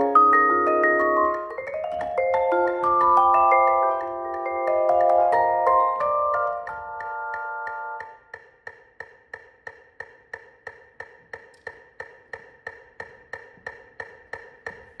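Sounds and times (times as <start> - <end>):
metronome clicking: 0.9 - 15.0.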